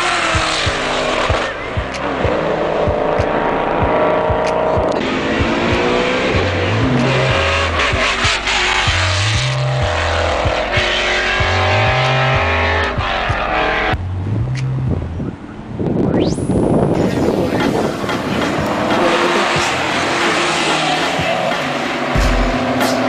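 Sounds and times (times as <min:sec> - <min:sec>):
music bass line: 0:00.0 - 0:15.4, 0:16.0 - 0:23.0
cars racing past revving: 0:00.0 - 0:16.0, 0:17.0 - 0:23.0.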